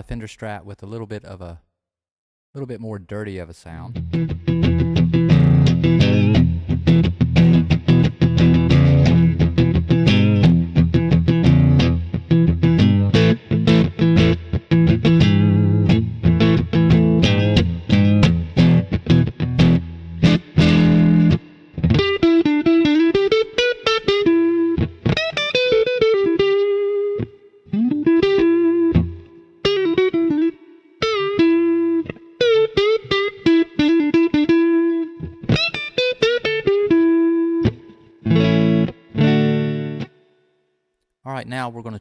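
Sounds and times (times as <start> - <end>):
overdriven electric guitar: 3.9 - 40.4.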